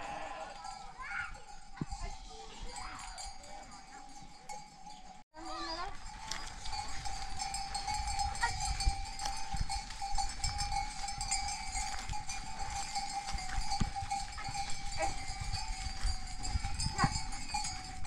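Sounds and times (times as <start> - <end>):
hooves on stony ground: 0.0 - 18.0
sheep bells ringing: 0.0 - 18.0.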